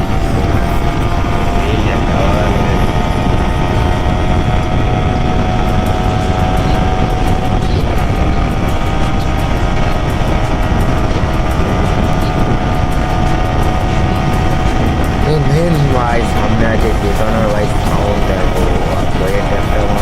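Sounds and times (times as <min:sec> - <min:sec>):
motorcycle engine drone: 0:00.0 - 0:20.0
wind rush on microphone: 0:00.0 - 0:20.0.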